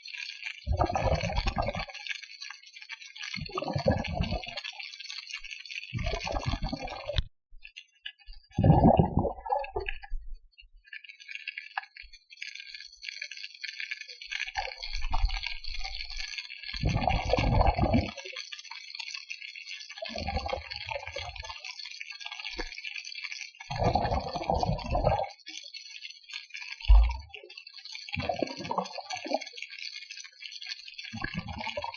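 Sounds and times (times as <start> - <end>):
crackling hiss of water: 0.0 - 31.9.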